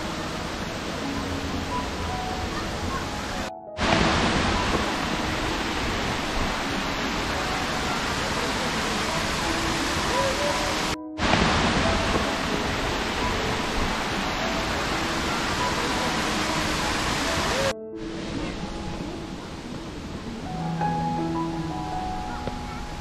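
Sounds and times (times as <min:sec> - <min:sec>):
rocky stream rushing: 0:00.0 - 0:18.8.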